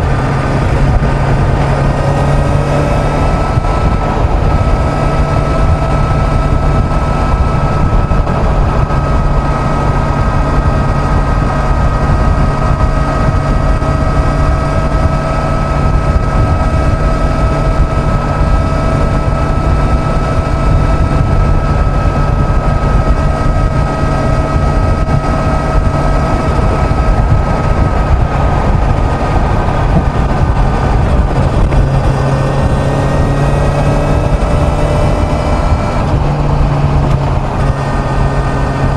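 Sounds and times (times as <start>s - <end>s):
heavy wind rush: 0.0s - 38.9s
motorcycle engine whine: 0.0s - 38.9s.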